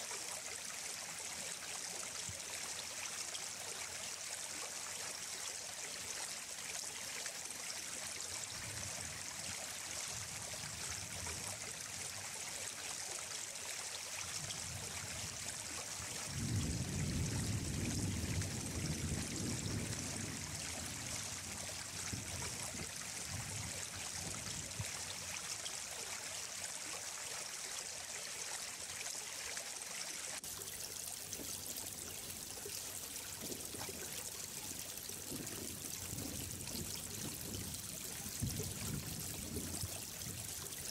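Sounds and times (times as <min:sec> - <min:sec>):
running water splashing: 0:00.0 - 0:40.9.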